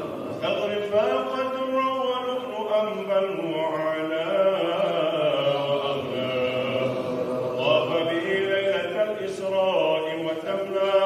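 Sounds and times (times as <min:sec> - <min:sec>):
man chanting devotional verse: 0:00.2 - 0:11.0.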